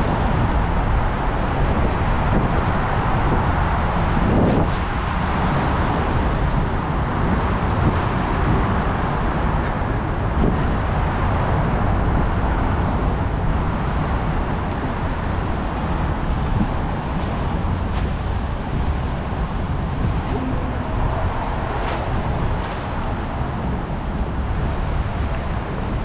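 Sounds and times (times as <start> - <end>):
deep rumble: 0.0 - 26.0
traffic noise: 0.0 - 26.0.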